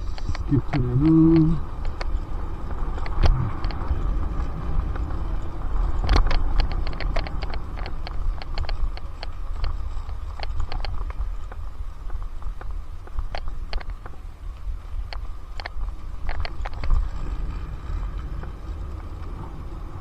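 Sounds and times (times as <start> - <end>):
bike clicks and rattles: 0.0 - 20.0
wind rumbling on microphone: 0.0 - 20.0.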